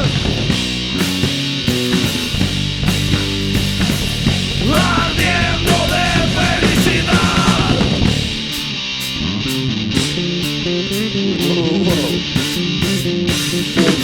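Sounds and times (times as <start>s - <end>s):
rock band playing live: 0.0s - 14.0s
sliding pitch-bending guitar line: 0.0s - 14.0s.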